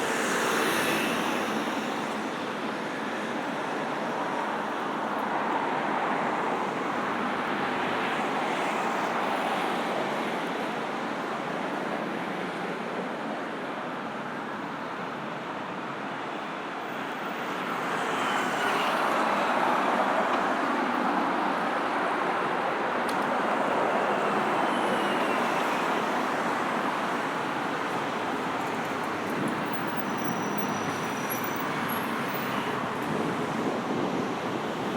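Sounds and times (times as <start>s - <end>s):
cars passing on busy road: 0.0s - 34.9s.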